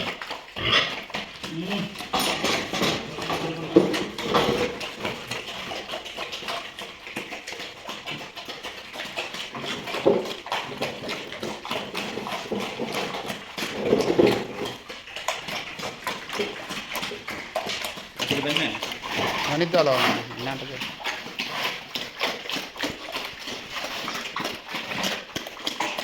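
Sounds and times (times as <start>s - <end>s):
pigs clicking and knocking: 0.0s - 26.0s
pigs grunting: 0.0s - 26.0s.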